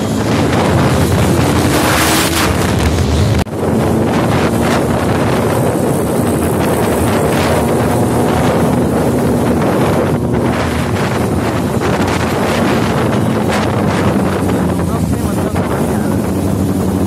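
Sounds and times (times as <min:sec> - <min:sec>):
motorcycle engine at speed: 0:00.0 - 0:17.0
wind buffeting microphone: 0:00.0 - 0:17.0.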